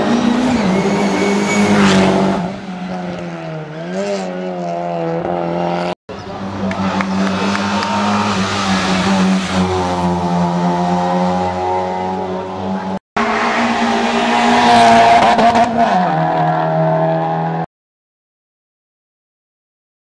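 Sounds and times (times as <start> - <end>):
rally car engine at high revs: 0.0 - 17.6.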